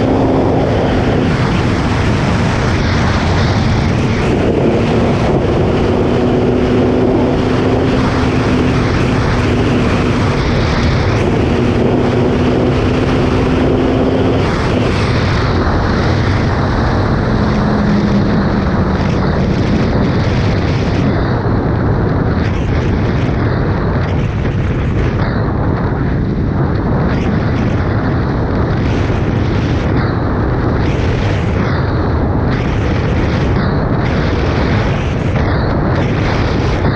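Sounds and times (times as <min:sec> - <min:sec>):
motorcycle engine drone: 0:00.0 - 0:36.9
wind noise on microphone: 0:00.0 - 0:36.9.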